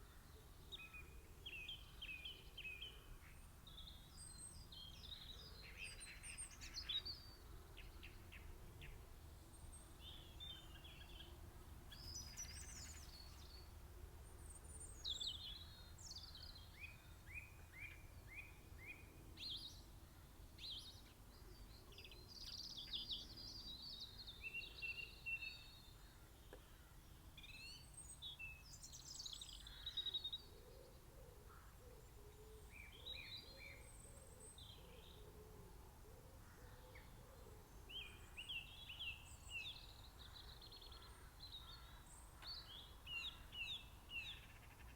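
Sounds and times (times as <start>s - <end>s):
songbirds singing: 0.0s - 44.9s.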